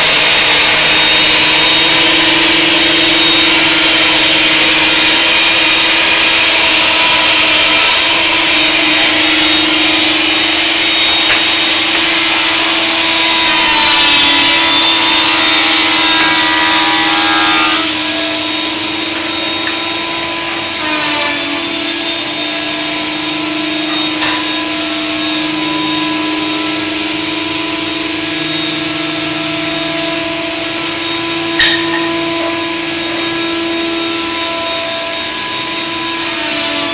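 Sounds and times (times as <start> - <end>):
electric sander on wood: 0.0 - 36.9
workshop machinery humming: 0.0 - 36.9.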